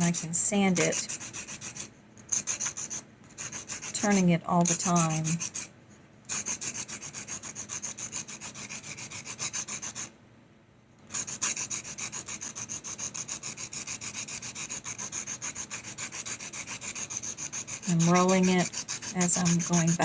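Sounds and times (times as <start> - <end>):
pencil lead scraping on sandpaper: 0.0 - 5.7, 6.3 - 10.1, 11.1 - 20.0.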